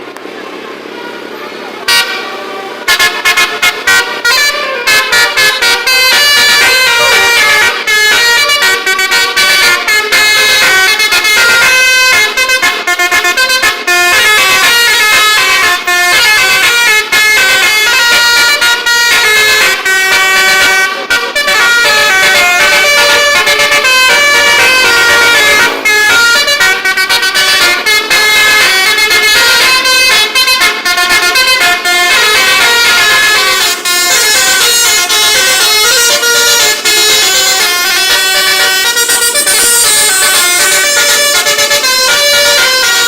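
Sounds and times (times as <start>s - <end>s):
multi-tone air horns playing melody: 0.7s - 43.0s.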